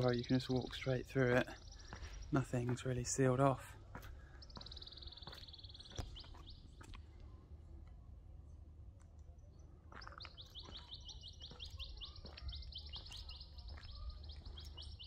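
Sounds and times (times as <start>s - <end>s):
birds chirping: 0.0s - 7.2s, 9.3s - 15.0s
faint low rumble: 0.0s - 15.0s.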